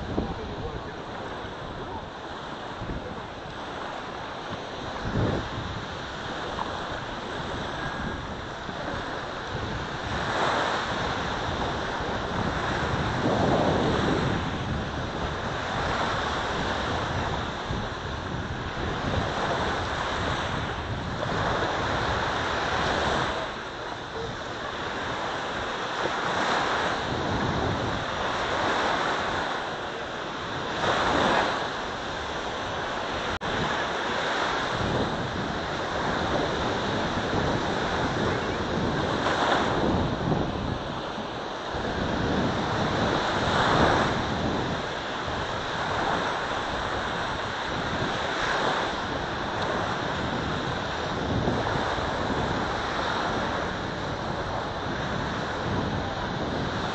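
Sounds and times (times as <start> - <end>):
small waves breaking on shore: 0.0 - 56.9
wind on microphone: 0.0 - 56.9.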